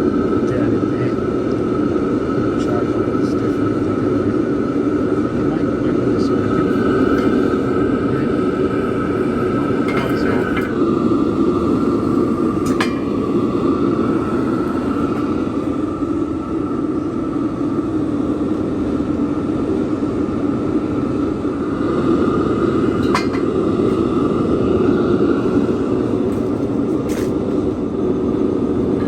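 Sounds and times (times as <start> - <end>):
electric blower fan whine: 0.0 - 29.0.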